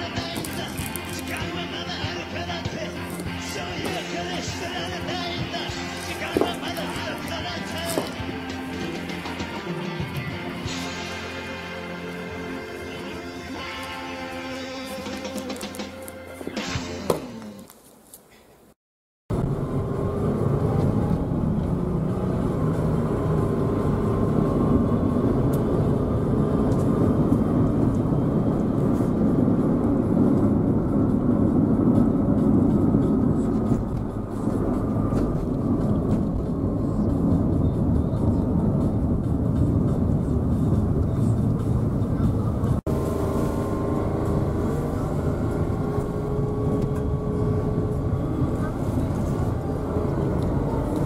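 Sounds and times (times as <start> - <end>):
car road noise rumble: 0.0 - 16.3, 19.3 - 51.0
faint engine hum: 0.0 - 17.8, 19.3 - 51.0.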